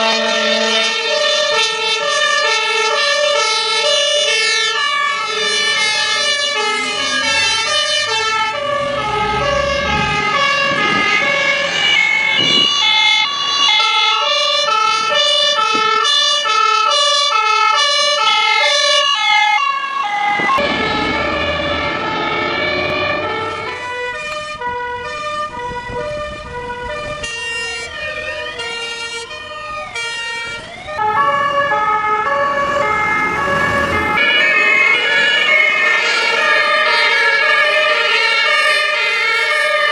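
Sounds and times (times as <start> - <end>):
two-tone siren: 0.0 - 39.9
wailing siren: 0.0 - 39.9
engine rumble: 3.2 - 16.5, 19.9 - 39.8.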